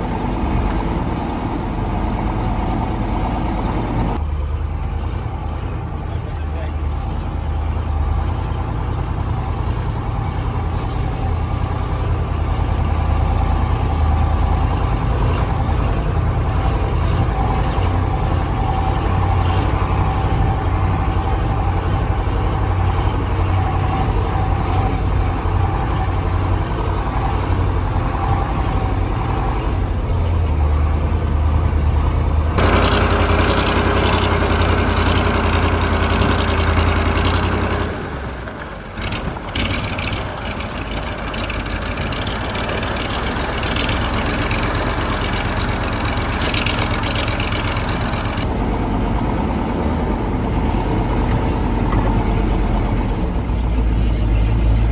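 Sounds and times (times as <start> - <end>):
truck diesel engine driving: 0.0 - 54.9.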